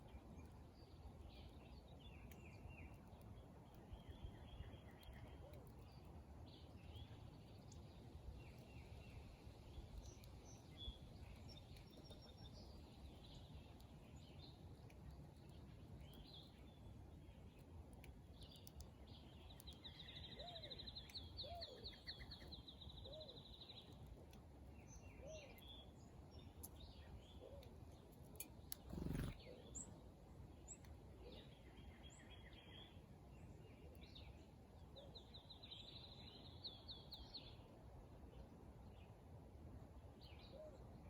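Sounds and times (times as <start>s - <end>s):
birds singing faintly: 0.0s - 41.0s.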